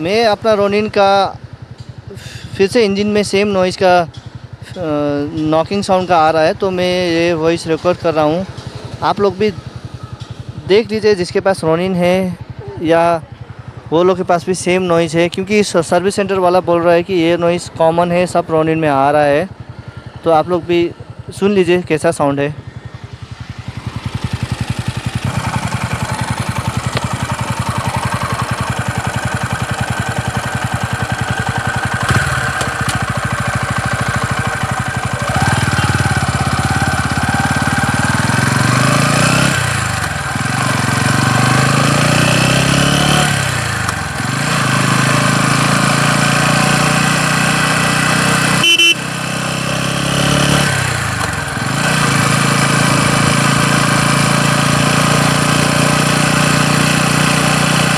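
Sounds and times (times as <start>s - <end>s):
engine knocking noise: 0.0s - 17.3s, 18.1s - 57.9s
motorcycle engine idling and revving: 0.0s - 57.9s.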